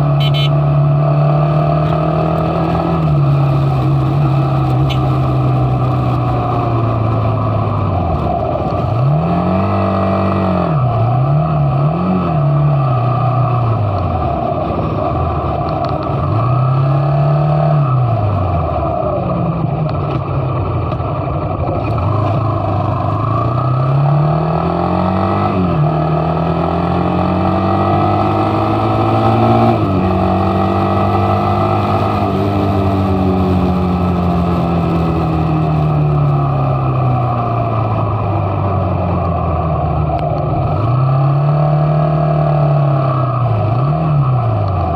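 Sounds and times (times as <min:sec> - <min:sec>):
motorcycle engine revving: 0:00.0 - 0:44.9
road and wind noise: 0:00.0 - 0:44.9.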